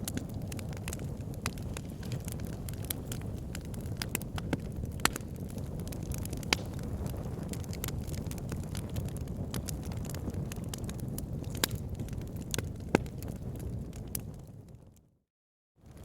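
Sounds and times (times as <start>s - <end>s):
wood fire in fireplace: 0.0s - 15.0s.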